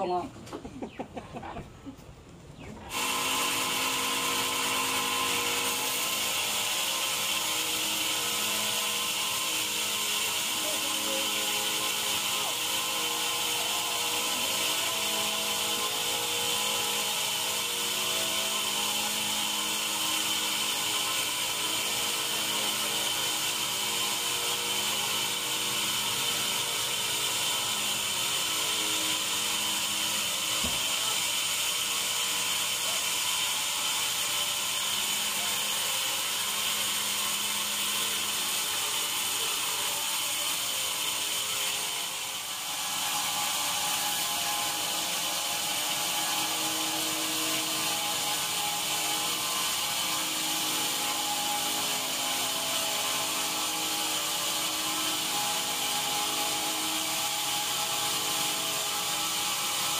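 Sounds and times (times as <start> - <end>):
band saw whining through log: 2.7 - 59.9.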